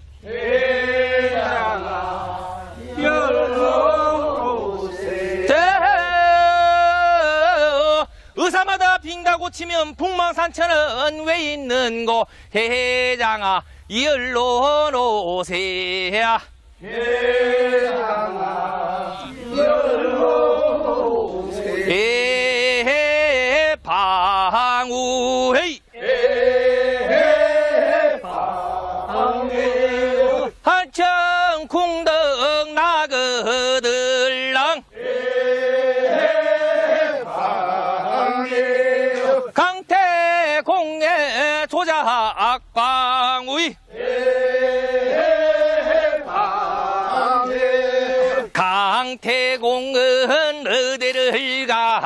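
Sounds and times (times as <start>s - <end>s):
man singing work song: 3.0s - 18.2s, 21.5s - 52.0s.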